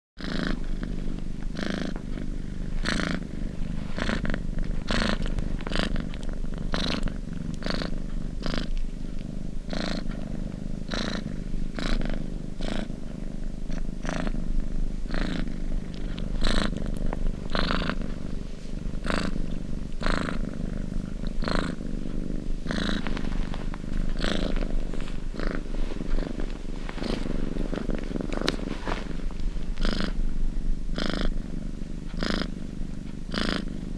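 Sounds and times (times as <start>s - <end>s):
cat purring: 0.2s - 33.9s.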